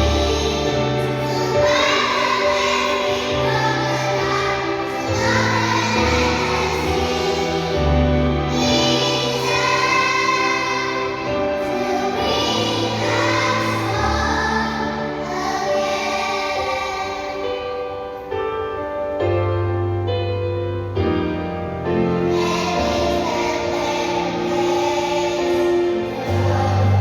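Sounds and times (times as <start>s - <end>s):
choir singing held chords: 0.0s - 18.3s, 21.8s - 27.0s.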